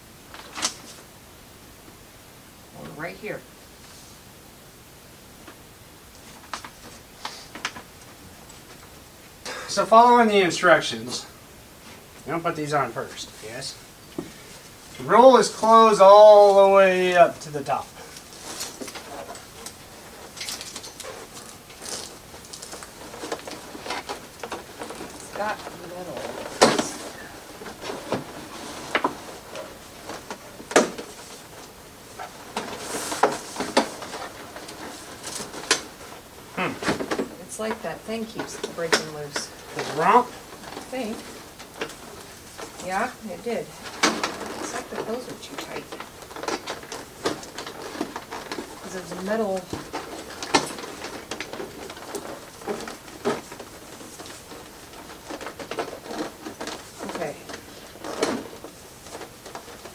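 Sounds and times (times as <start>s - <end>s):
clothes rustling: 5.4s - 59.9s.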